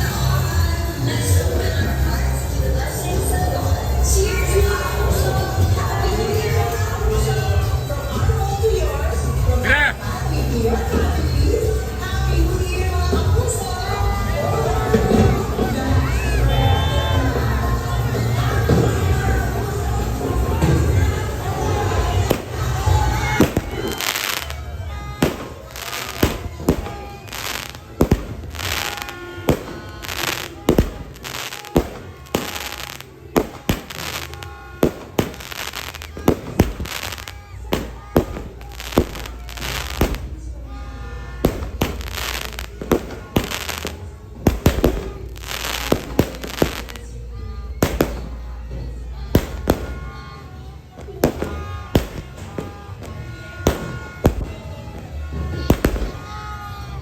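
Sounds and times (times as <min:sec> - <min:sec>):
background music: 0:00.0 - 0:57.0
fireworks banging and crackling: 0:00.0 - 0:57.0.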